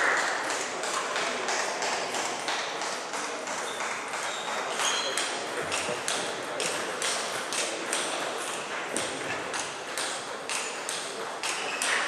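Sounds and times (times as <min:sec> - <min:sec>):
table tennis balls clicking: 0:00.0 - 0:12.0.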